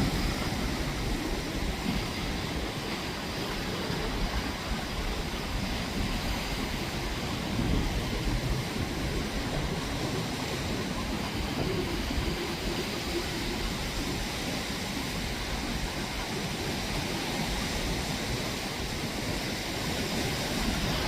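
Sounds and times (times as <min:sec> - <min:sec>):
ocean waves on shore: 0:00.0 - 0:21.0
wind buffeting microphone: 0:00.0 - 0:21.0.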